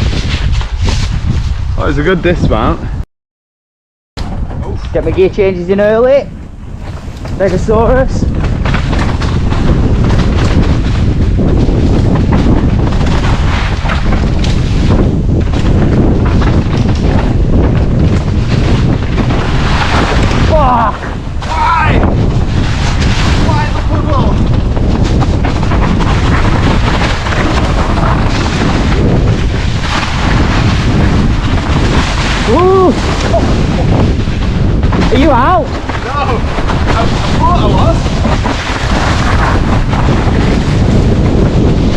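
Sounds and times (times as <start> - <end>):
wind noise on microphone: 0.0 - 3.0, 4.2 - 41.9
bicycle rattling over rough ground: 4.2 - 41.9.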